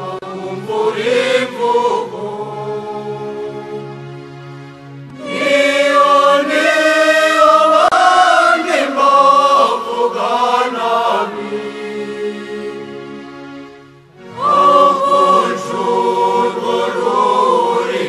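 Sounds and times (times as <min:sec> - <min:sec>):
voices singing a hymn: 0:00.0 - 0:04.2, 0:05.1 - 0:13.3, 0:14.2 - 0:18.0.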